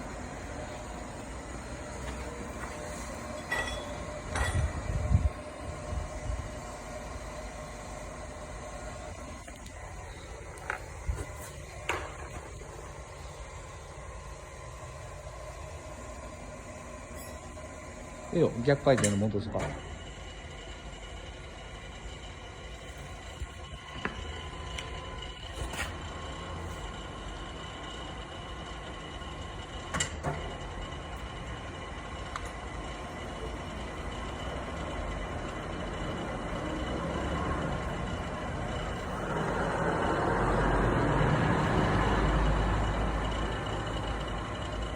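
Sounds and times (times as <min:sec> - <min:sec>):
machine hum with thin whine: 0:00.0 - 0:44.9.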